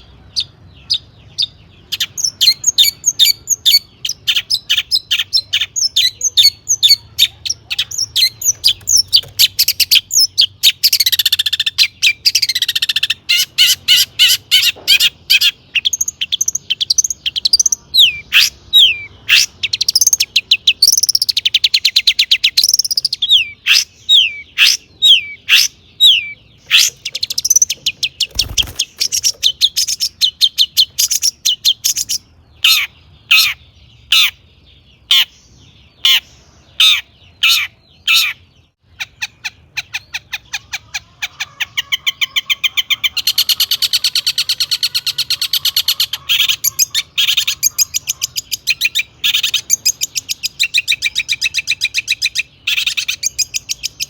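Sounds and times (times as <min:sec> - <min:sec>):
shrike singing varied song: 0:00.0 - 0:54.0.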